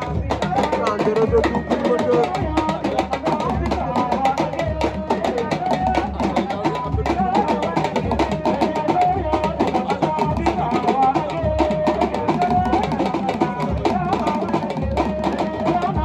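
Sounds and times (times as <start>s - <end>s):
fast dense drumming: 0.0s - 16.0s.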